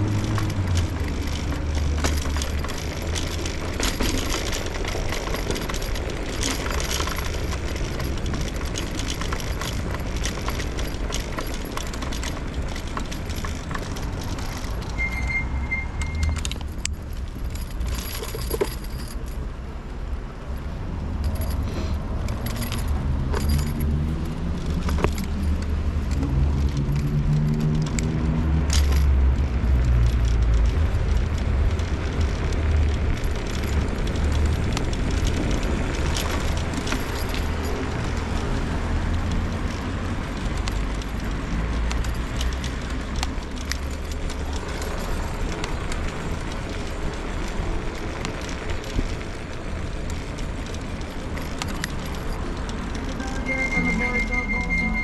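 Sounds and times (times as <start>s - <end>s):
scooter rattling over pavement: 0.0s - 15.0s, 16.2s - 21.6s, 22.2s - 53.2s
road rumble: 0.0s - 55.0s
traffic: 0.0s - 55.0s.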